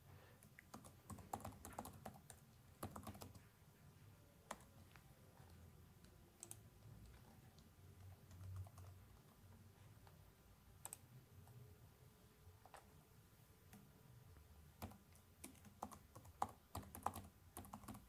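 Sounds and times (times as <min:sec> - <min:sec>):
faint keyboard typing: 0:00.2 - 0:11.7, 0:12.5 - 0:18.0.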